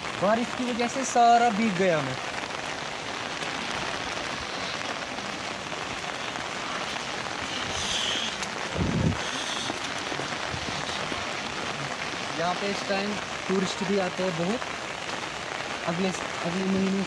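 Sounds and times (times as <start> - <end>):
heavy rain on stone paving: 0.0 - 17.0.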